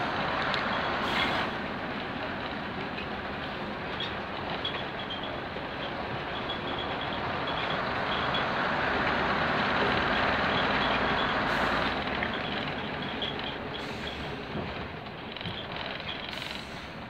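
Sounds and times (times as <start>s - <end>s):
diesel railcar engine: 0.0s - 17.0s.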